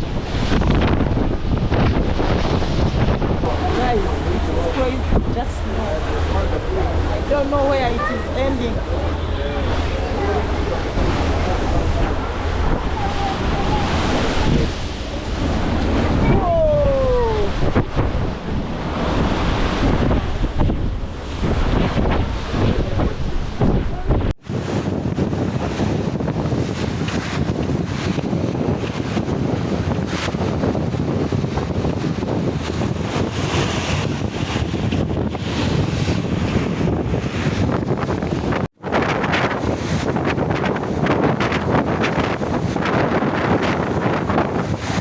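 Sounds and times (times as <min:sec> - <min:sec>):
heavy waves rushing: 0:00.0 - 0:45.0
wind buffeting microphone: 0:00.0 - 0:45.0.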